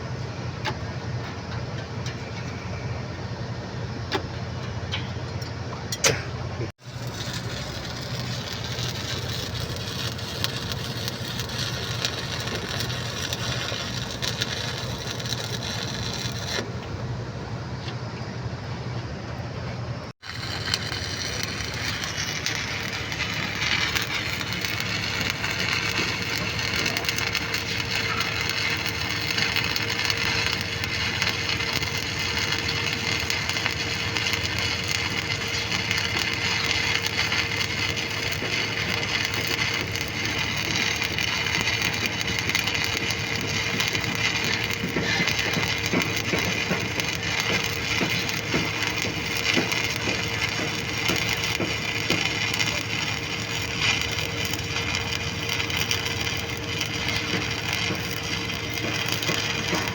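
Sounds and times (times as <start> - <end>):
steady hum: 0.0 - 59.9
welding arc crackling: 6.7 - 16.9, 20.2 - 59.9.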